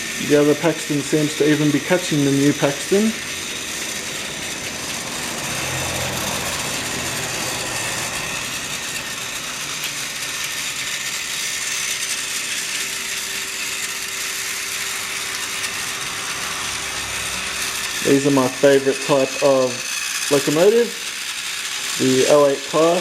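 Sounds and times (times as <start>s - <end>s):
toy coaches rolling on track: 0.0s - 23.0s
toy train motors whirring: 0.0s - 23.0s.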